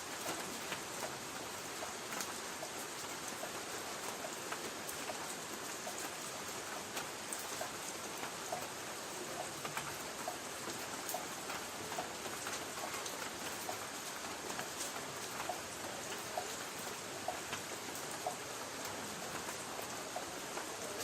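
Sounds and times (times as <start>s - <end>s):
light rain on a tin roof: 0.0s - 21.0s.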